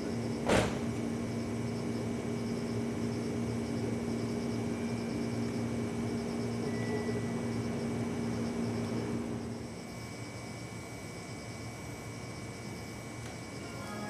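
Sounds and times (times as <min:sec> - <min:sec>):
train equipment and fans humming: 0:00.0 - 0:14.0.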